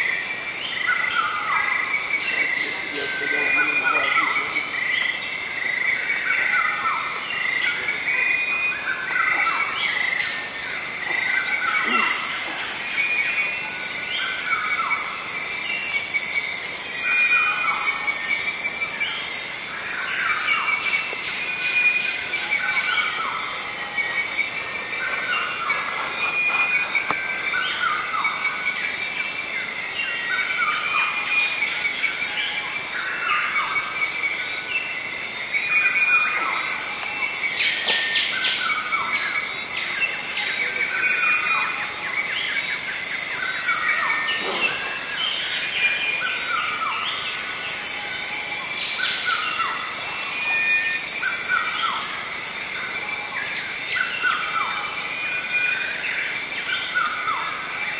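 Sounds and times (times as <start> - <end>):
high-pitched insect drone: 0.0 - 57.9.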